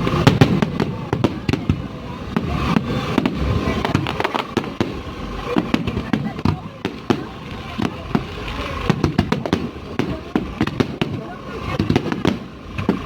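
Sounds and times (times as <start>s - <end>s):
fireworks bangs and crackles: 0.0s - 13.0s
voices in background: 0.0s - 13.0s.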